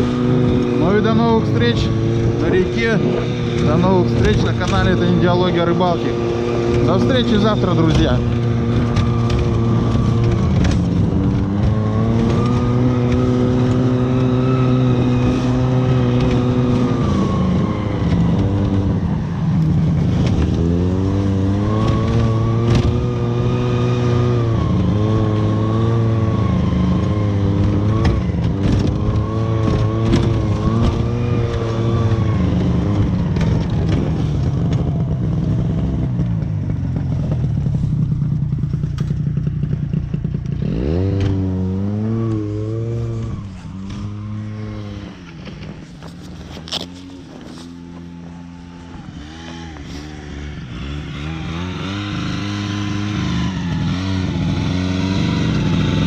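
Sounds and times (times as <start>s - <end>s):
snowmobile engine: 0.0s - 56.0s.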